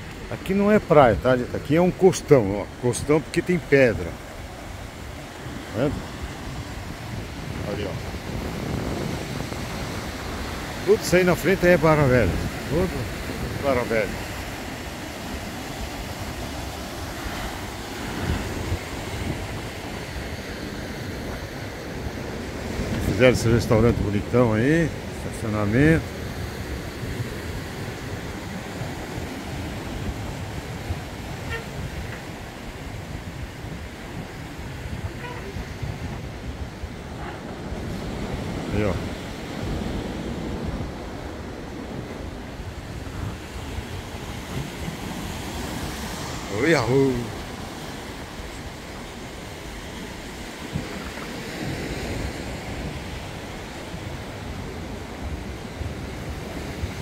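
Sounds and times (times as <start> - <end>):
sea surf on rocky shore: 0.0 - 57.0
wind buffeting microphone: 0.0 - 57.0.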